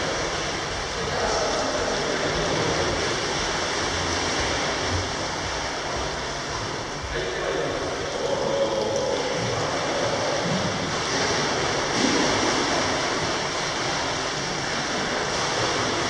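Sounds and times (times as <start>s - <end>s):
swimming pool hall rushing noise: 0.0s - 16.0s.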